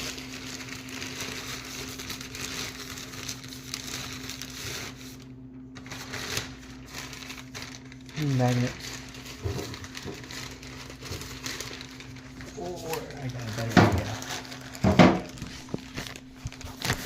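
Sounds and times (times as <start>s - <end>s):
low electrical hum: 0.0s - 17.0s
rustling of objects handled: 0.0s - 17.0s.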